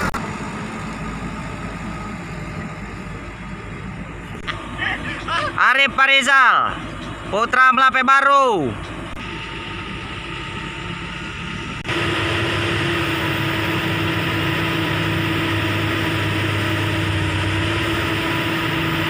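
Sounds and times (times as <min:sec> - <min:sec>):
diesel truck engines humming: 0:00.0 - 0:19.0.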